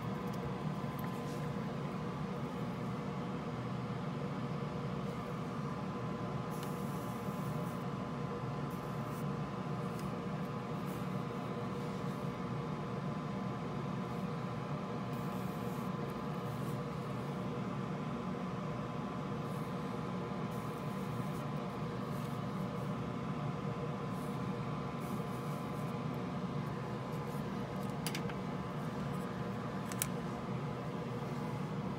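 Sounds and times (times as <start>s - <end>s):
background hum and hiss: 0.0s - 31.9s.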